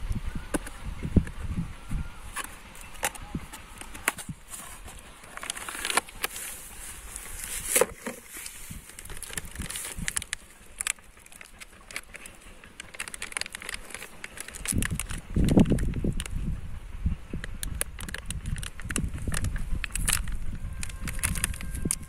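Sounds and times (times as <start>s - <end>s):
paper and plastic crinkling: 2.3s - 16.3s, 17.6s - 22.0s.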